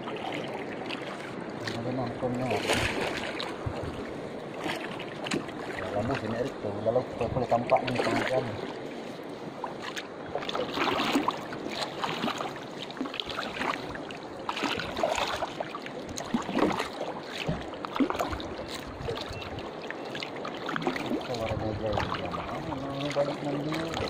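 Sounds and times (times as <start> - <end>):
small splashes and knocks: 0.0 - 6.6, 7.2 - 8.8, 9.6 - 19.5, 20.1 - 24.0
water lapping against hull: 0.0 - 24.0.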